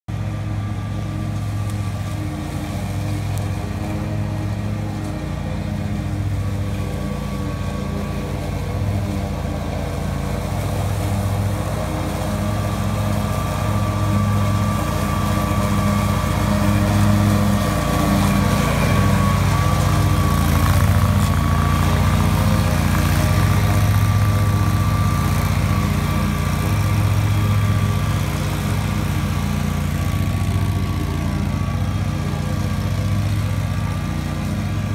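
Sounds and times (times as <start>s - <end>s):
riding mower engine drone: 0.1s - 34.9s.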